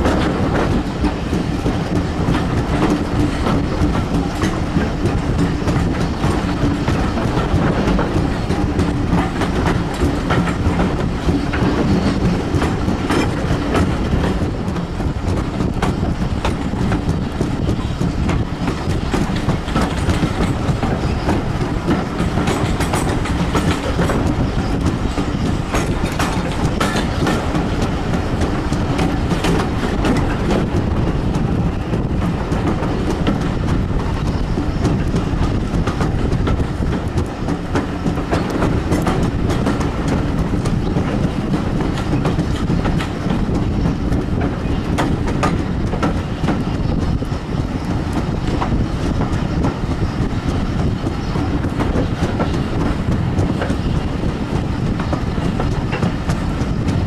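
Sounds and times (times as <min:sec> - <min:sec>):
train carriage rumbling on track: 0:00.0 - 0:57.0
wheels clacking over rail joints: 0:00.0 - 0:57.0.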